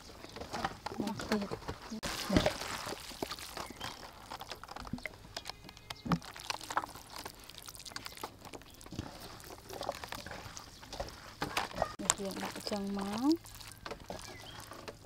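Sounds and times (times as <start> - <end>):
wet squelches of stuffing: 0.0 - 15.0
small irregular clicks: 2.9 - 15.0.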